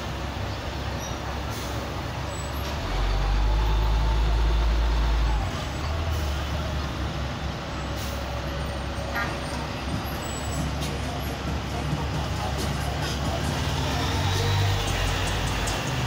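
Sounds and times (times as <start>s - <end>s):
deep heavy engine rumble: 0.0s - 16.0s
heavy road traffic idling: 0.0s - 16.0s.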